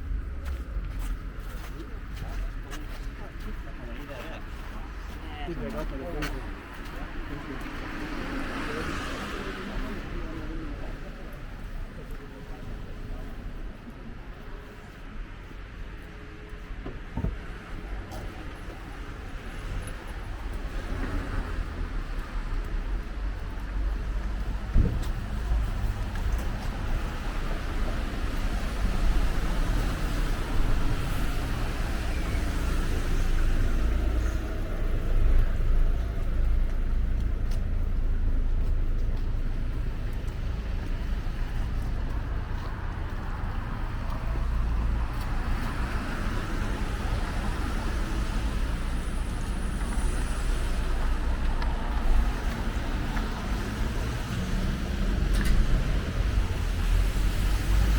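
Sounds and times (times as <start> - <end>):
cars passing: 0.0 - 57.9
low traffic rumble: 0.0 - 57.9.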